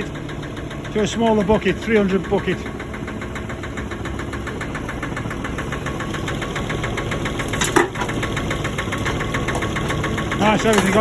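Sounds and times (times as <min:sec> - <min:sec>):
diesel engine idling with knock: 0:00.0 - 0:11.0.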